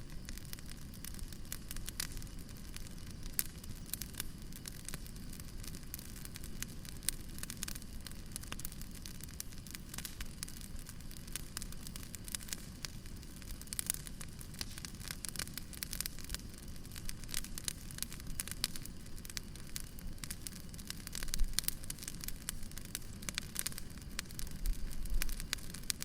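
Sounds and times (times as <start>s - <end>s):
low rumble of flame: 0.0s - 26.0s
wood fire crackling: 0.0s - 26.0s.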